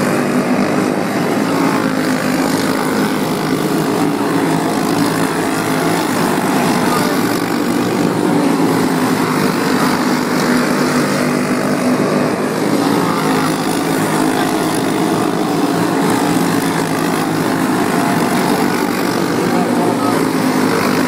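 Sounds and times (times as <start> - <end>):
racing kart engines droning: 0.0 - 21.0.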